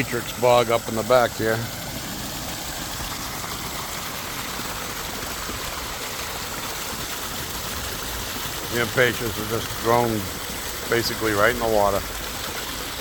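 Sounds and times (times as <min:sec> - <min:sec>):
running water in a pond: 0:00.0 - 0:13.0.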